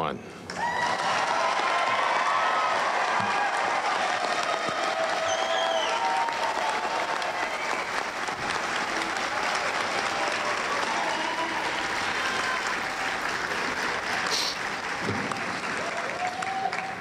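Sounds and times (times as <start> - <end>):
large audience applauding: 0.5 - 17.0.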